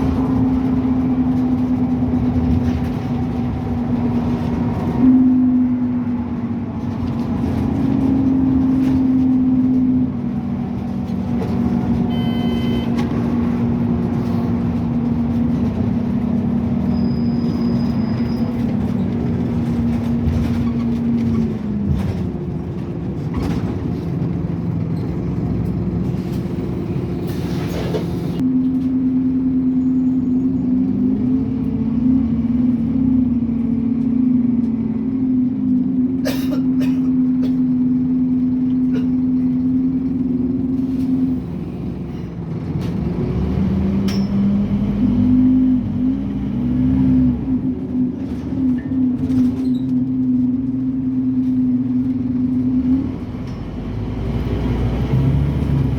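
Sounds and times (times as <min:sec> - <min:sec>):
bus engine whining: 0:00.0 - 0:55.9.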